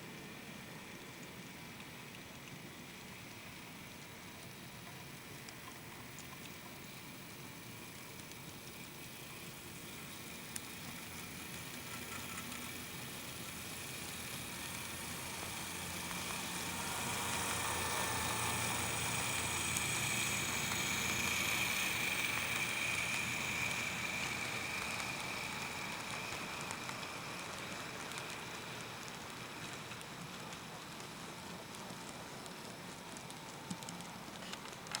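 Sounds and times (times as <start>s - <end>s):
model train running on track: 0.0s - 35.0s.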